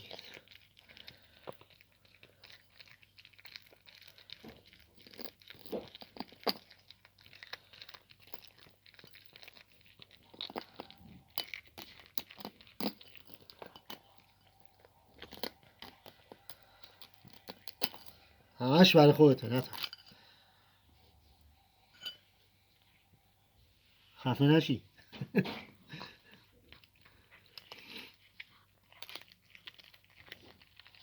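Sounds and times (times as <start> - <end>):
cat crunching bones: 0.0 - 20.4, 26.3 - 31.0.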